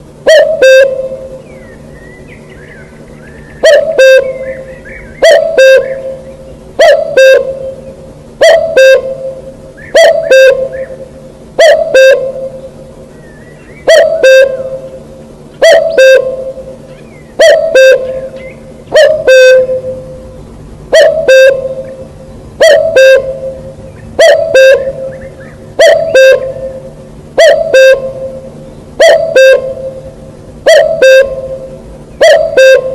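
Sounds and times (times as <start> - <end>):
cuckoo calling: 0.0 - 32.9.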